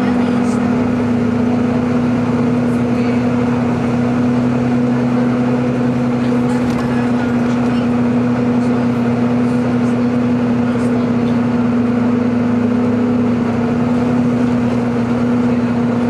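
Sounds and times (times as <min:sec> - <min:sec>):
bus drivetrain hum-whine: 0:00.0 - 0:16.0
road and tyre noise: 0:00.0 - 0:16.0.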